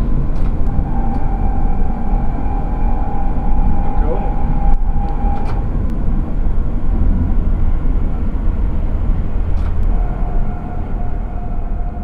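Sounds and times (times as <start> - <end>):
steady whine: 0.0 - 12.0
tram wheels rumbling on rails: 0.0 - 12.0.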